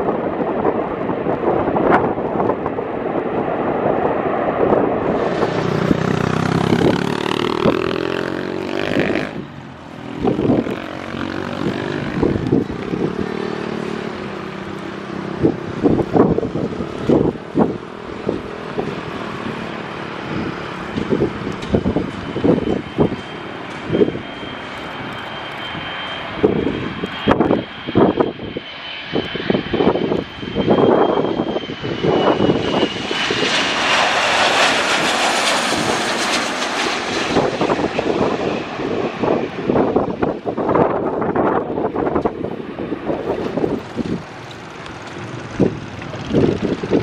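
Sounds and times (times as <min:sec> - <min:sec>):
aircraft engine whine: 0:00.0 - 0:47.0
engine noise: 0:00.1 - 0:47.0.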